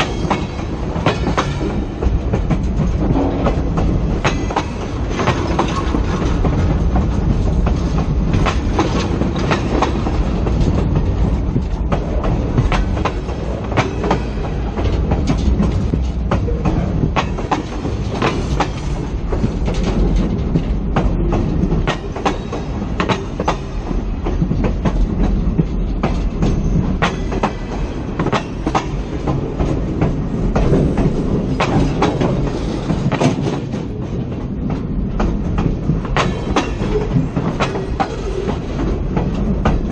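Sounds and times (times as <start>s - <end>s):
train rumbling over rails: 0.0s - 39.9s
wheels clanking on track: 0.0s - 39.9s.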